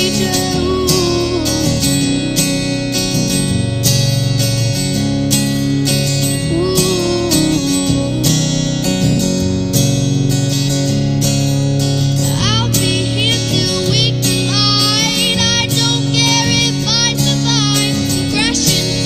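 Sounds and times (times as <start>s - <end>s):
acoustic guitars strumming: 0.0s - 19.0s.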